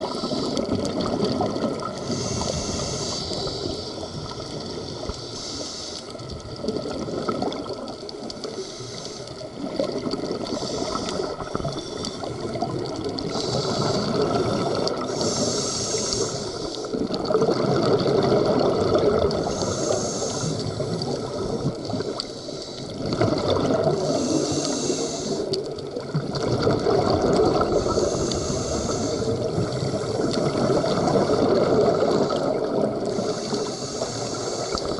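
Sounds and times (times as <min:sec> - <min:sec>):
bubbling exhale underwater: 0:00.0 - 0:05.2, 0:06.2 - 0:08.6, 0:09.4 - 0:34.9
hissing inhale through regulator: 0:00.0 - 0:06.4, 0:08.3 - 0:17.1, 0:18.4 - 0:26.2, 0:26.8 - 0:34.9.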